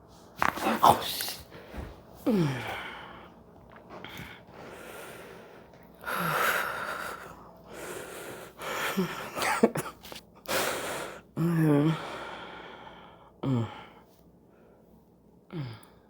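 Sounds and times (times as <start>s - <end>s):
person breathing heavily: 0.6s - 9.4s, 10.5s - 14.8s.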